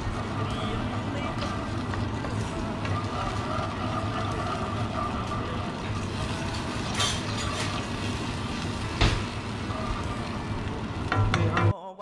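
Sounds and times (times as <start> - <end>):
sauce bubbling in a wok: 0.0 - 11.4.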